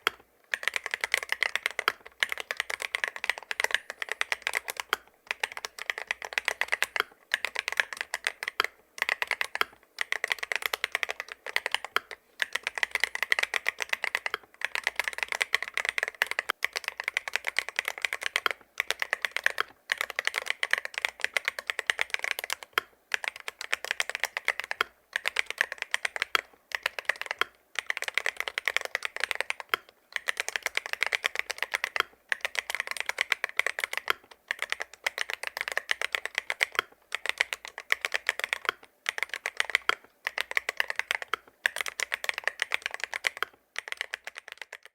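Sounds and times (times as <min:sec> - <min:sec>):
fast keyboard typing: 0:00.0 - 0:44.9.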